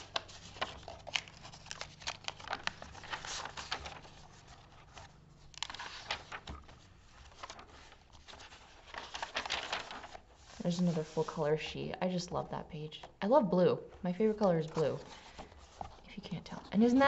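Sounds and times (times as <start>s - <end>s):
paper pages rustling: 0.0s - 11.5s, 14.2s - 17.0s.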